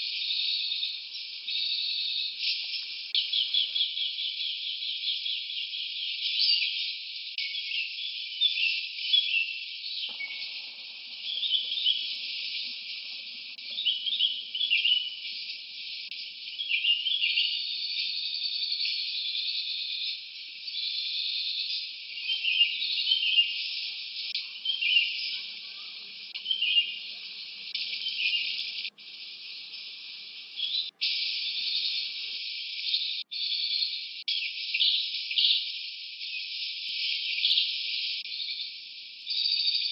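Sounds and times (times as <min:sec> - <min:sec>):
birds chirping and trilling: 0:00.0 - 0:39.9
insects chirping: 0:00.0 - 0:39.9.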